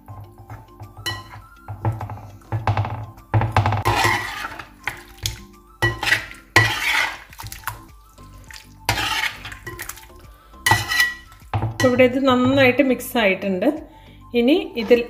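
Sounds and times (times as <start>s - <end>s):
spatula scraping metal pot: 0.0s - 12.8s
soft background music: 0.0s - 15.0s.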